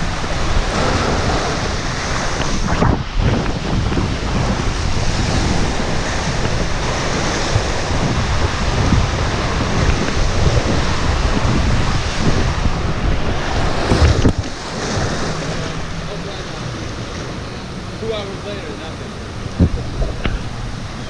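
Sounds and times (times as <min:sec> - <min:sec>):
water rushing in slide tube: 0:00.0 - 0:18.4
wind noise on microphone: 0:00.0 - 0:21.0.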